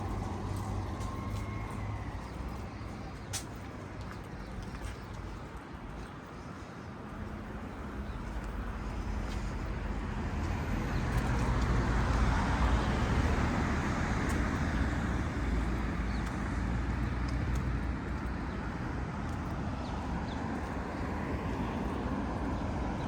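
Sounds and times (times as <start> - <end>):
background road traffic: 0.0 - 23.0.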